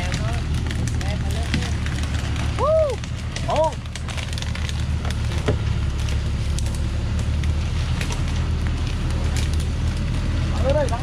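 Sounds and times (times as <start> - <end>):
diesel truck engine idling: 0.0 - 11.0
dry branches snapping underfoot: 0.0 - 11.0.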